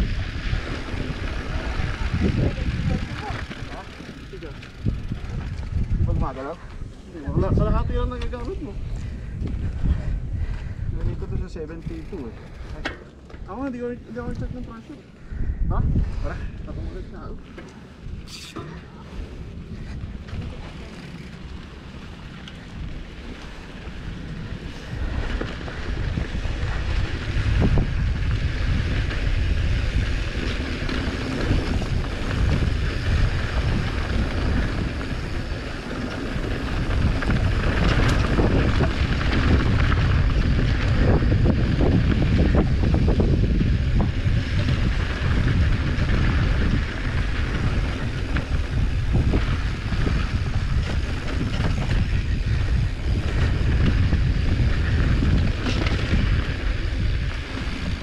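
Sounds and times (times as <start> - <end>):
bike rattling and knocking: 0.0 - 14.9, 19.7 - 58.0
wind rushing over microphone: 0.0 - 58.0.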